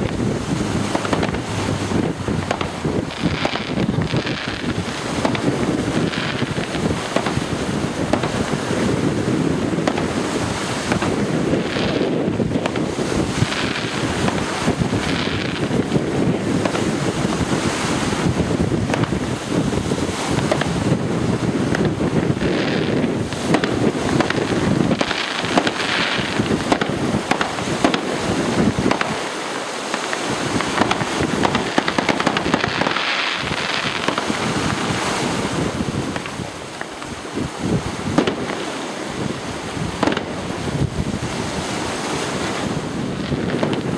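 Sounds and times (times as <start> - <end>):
fireworks hissing: 0.0 - 43.9
fireworks popping and crackling: 0.0 - 43.9
wind noise on microphone: 0.0 - 43.9.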